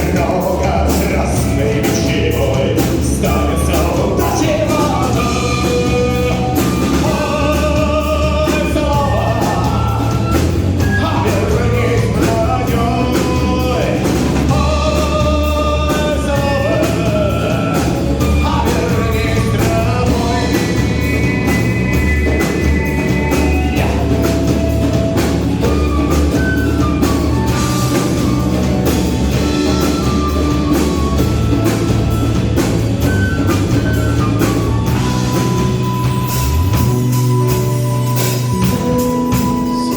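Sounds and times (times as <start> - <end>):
person singing: 0.0 - 31.9, 38.5 - 39.9
rock band playing live: 0.0 - 39.9.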